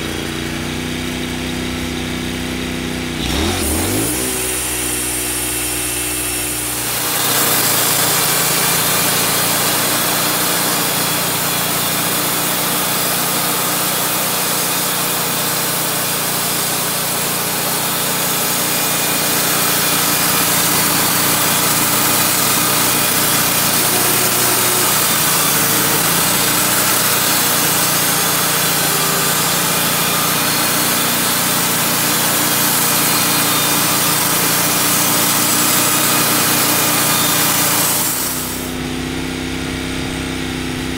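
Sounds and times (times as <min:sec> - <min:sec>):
band blade cutting log: 0:00.0 - 0:39.0
sawmill engine running: 0:00.0 - 0:40.9.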